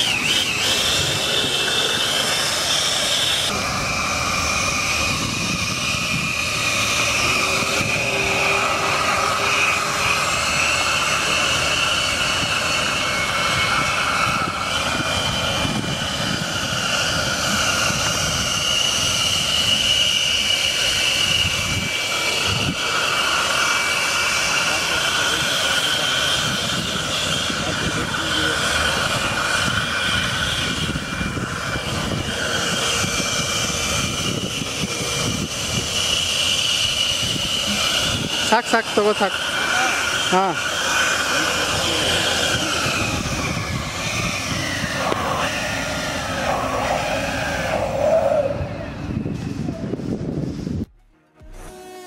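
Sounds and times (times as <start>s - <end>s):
electric fan motor whining: 0.0s - 52.0s.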